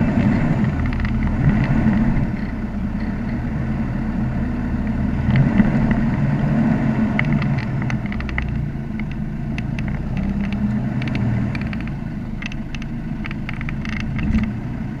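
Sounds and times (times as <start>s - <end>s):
gravel crunching under tyres: 0.0s - 15.0s
off-road vehicle engine running: 0.0s - 15.0s.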